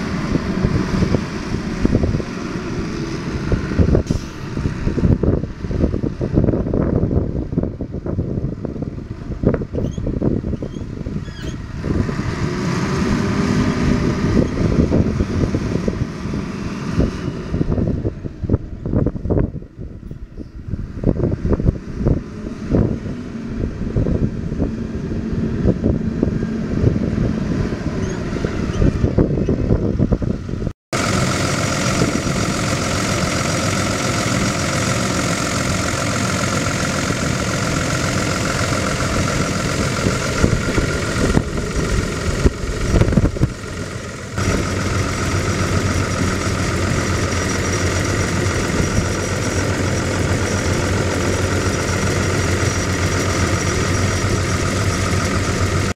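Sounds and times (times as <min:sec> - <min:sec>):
diesel engine running: 0:00.0 - 0:55.9
gusty wind on microphone: 0:00.0 - 0:55.9.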